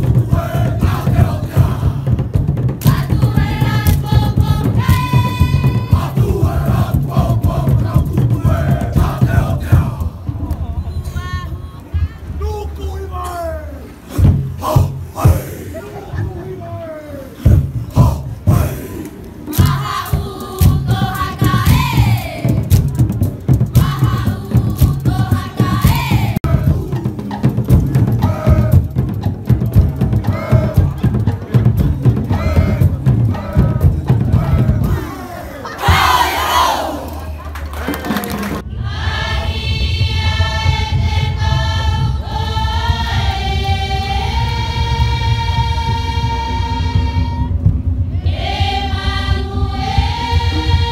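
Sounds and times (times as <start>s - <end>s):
group chanting: 0.0s - 2.2s, 2.8s - 10.8s, 14.0s - 17.0s, 17.9s - 22.6s, 23.8s - 27.3s, 27.9s - 29.2s, 30.2s - 37.2s, 38.6s - 47.4s, 48.2s - 50.9s
low drumbeat: 0.0s - 12.3s, 14.1s - 16.6s, 17.4s - 37.0s, 38.1s - 50.9s.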